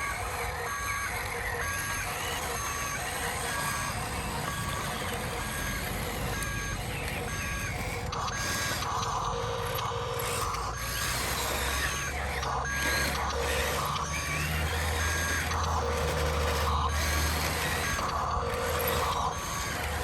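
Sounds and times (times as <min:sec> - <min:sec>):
electronic reversing beeps: 0:00.0 - 0:20.0
rough mechanical noise: 0:00.0 - 0:20.0
whirr of small electric motors: 0:00.0 - 0:20.0.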